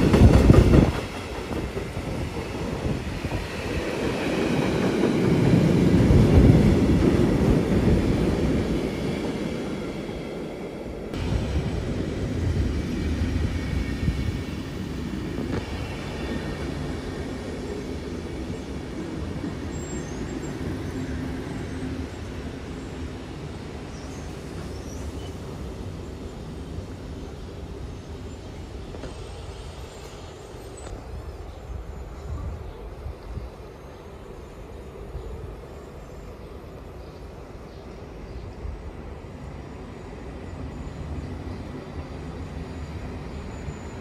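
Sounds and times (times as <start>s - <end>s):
freight train rolling past: 0.0s - 44.0s
passenger coaches rumbling past: 0.0s - 44.0s.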